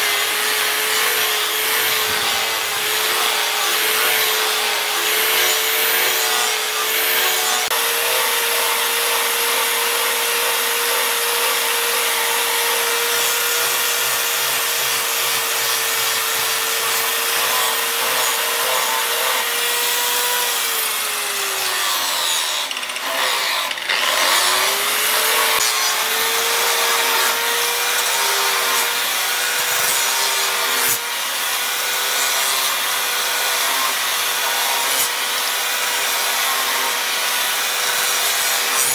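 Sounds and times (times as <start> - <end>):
power tool grinding hiss: 0.0 - 38.9.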